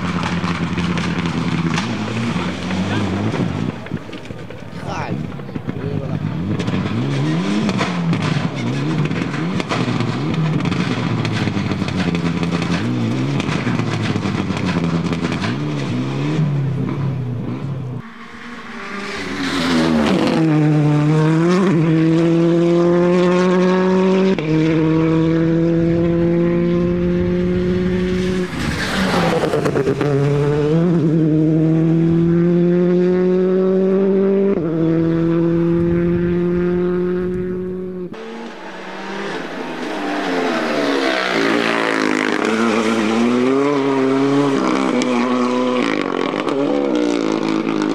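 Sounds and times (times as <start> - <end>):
car accelerating through gears: 0.0 - 47.9
cars passing by: 0.0 - 47.9
rally car engine revving: 0.0 - 47.9.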